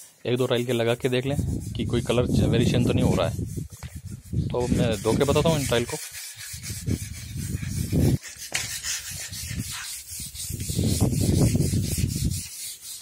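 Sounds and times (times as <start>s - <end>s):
bristle brush scrubbing tiles: 0.0s - 13.0s
rope rasping over wet tile: 0.0s - 13.0s.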